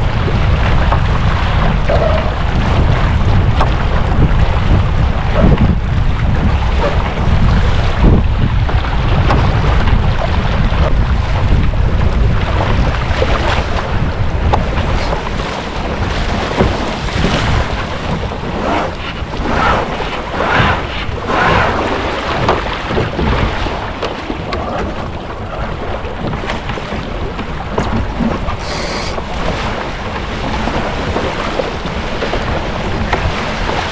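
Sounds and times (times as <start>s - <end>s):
water splashing past hull: 0.0s - 33.9s
wind buffeting microphone: 0.0s - 33.9s.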